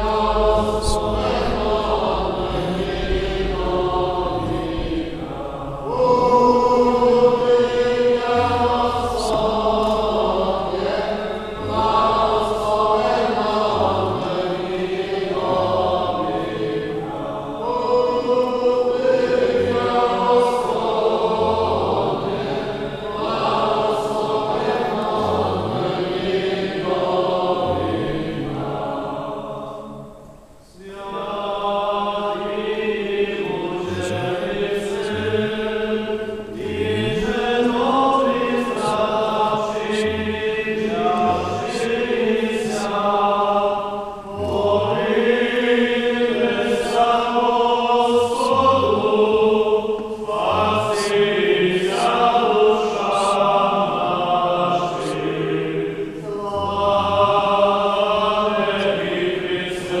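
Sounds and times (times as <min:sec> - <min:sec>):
voices singing chant: 0:00.0 - 1:00.0.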